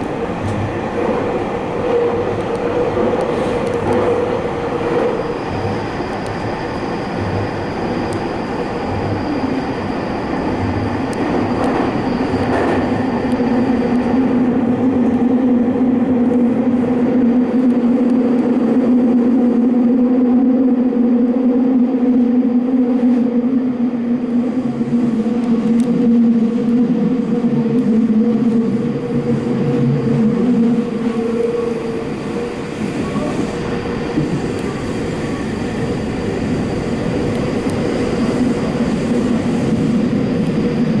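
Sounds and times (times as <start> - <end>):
train rolling rumble: 0.0 - 41.0.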